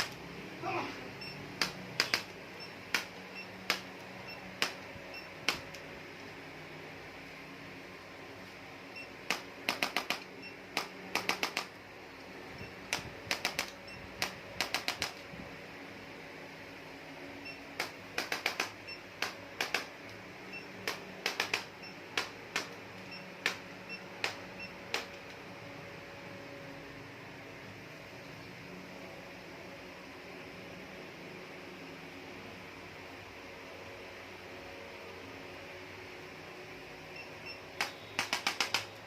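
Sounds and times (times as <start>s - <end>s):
faint room hum: 0.0s - 39.0s.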